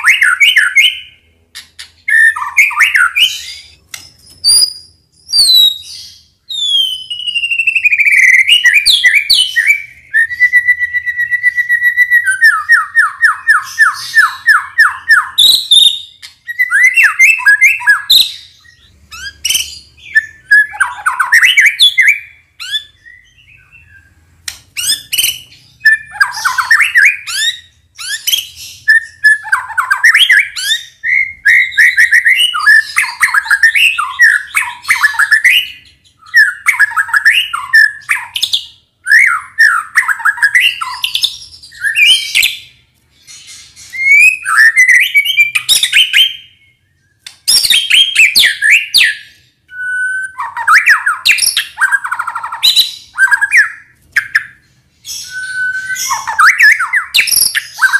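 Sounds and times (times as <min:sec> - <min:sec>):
bird singing whistles and chatter: 0:00.0 - 0:24.1, 0:24.8 - 0:57.9.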